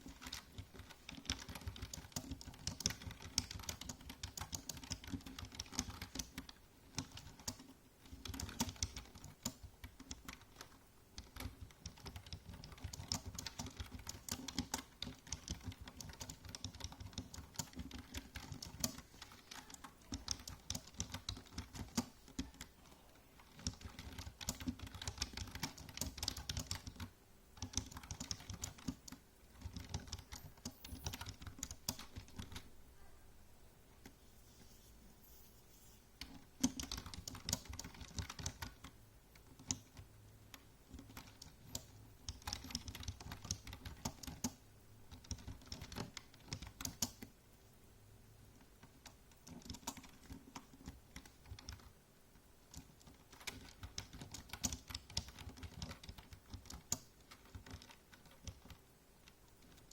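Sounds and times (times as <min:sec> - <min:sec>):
computer keyboard typing: 0:00.0 - 0:22.8, 0:23.4 - 0:32.7, 0:36.2 - 0:47.3, 0:48.8 - 0:52.0, 0:52.7 - 0:59.9.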